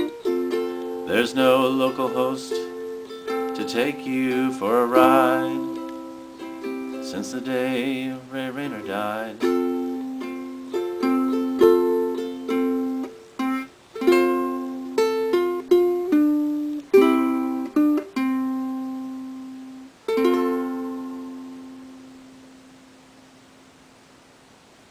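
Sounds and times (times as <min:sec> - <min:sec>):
ukulele strumming: 0:00.0 - 0:22.9.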